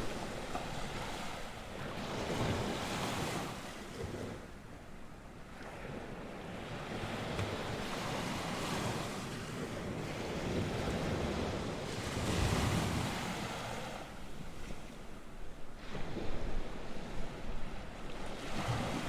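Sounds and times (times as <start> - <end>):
sea waves breaking: 0.0 - 4.8, 5.4 - 19.0.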